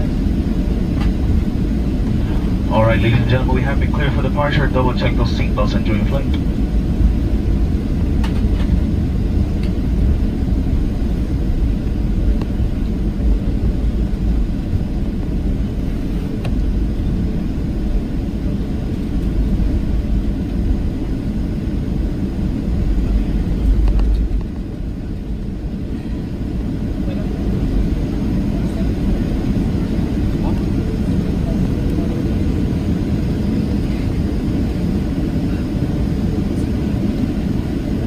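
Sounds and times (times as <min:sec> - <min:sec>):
aircraft cabin rumble: 0:00.0 - 0:38.0.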